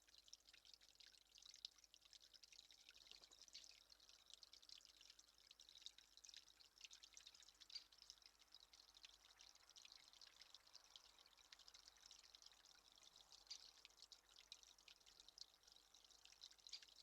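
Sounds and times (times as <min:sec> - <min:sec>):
water dripping and trickling: 0:00.0 - 0:17.0.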